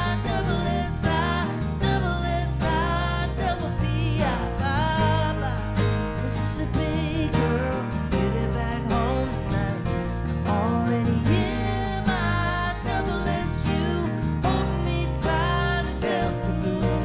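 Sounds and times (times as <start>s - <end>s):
electric bass: 0.0s - 17.0s
keyboard: 0.0s - 17.0s
man singing lead vocal: 0.0s - 17.0s
strummed acoustic guitar: 0.0s - 17.0s.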